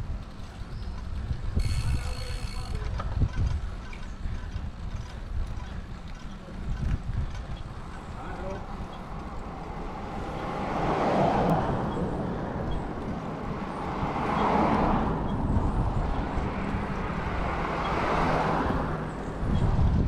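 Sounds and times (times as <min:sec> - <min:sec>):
road traffic passing: 0:00.0 - 0:20.0
wind rumble on microphone: 0:00.0 - 0:20.0.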